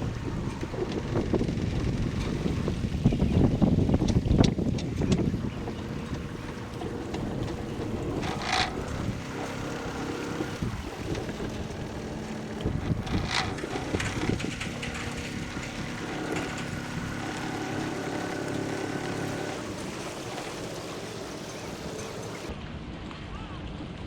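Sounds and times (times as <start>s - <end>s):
wind on microphone: 0.0s - 20.0s
engine hum: 0.0s - 22.6s
water noise: 0.0s - 23.1s.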